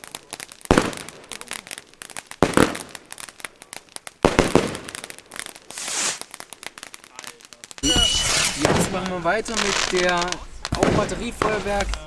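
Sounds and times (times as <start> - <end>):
firework bangs: 0.0 - 12.0
firework crackling: 0.0 - 12.0.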